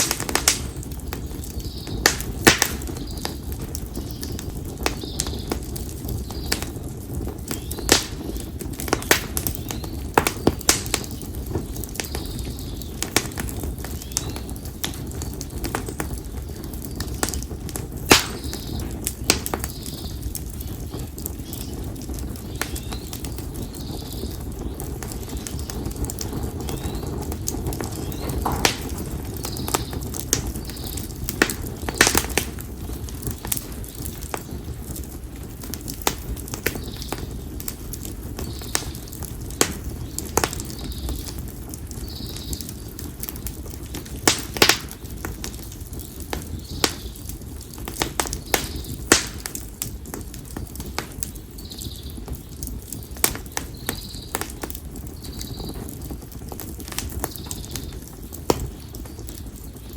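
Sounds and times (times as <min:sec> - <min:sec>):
firewood popping and snapping: 0:00.0 - 0:59.9
flames rumbling: 0:00.0 - 0:59.9.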